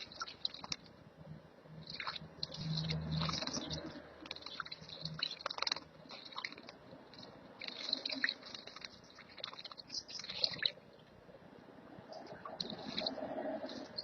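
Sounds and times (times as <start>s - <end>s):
small songbirds chirping: 0.0s - 11.2s, 12.0s - 14.0s.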